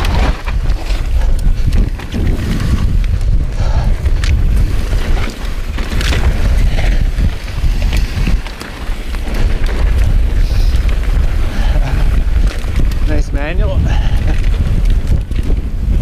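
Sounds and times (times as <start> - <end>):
bike knocking and rattling: 0.0 - 16.0
bike tyres on dirt: 0.0 - 16.0
wind rumble on microphone: 0.0 - 16.0.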